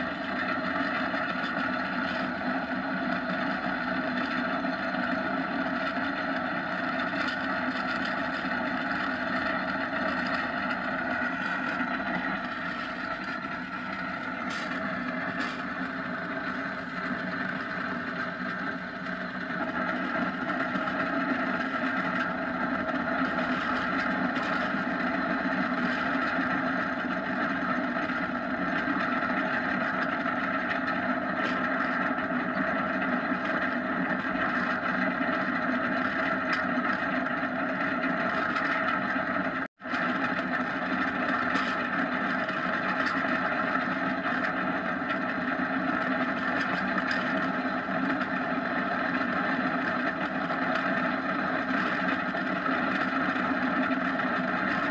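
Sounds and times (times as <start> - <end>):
kart running roar: 0.0 - 54.9.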